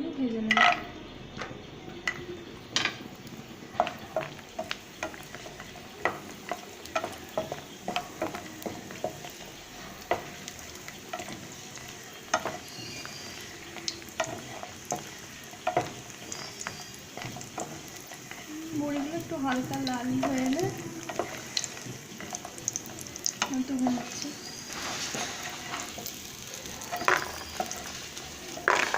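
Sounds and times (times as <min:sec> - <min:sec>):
frying sizzle: 0:00.0 - 0:28.9
spatula tapping and scraping pan: 0:00.5 - 0:28.9.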